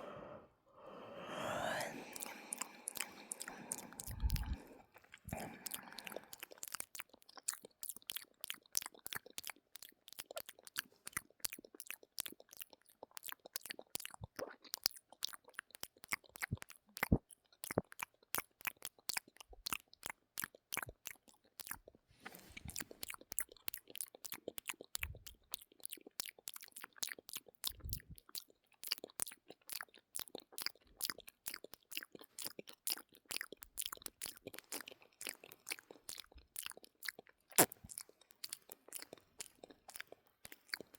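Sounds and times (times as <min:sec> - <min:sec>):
wet tongue and lip clicks: 0:01.2 - 0:40.9.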